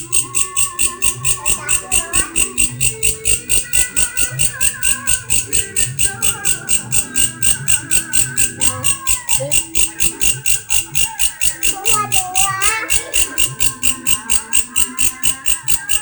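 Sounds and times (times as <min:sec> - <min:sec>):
faint voices or music: 0:00.0 - 0:16.0
grasshopper chirping: 0:00.0 - 0:16.0.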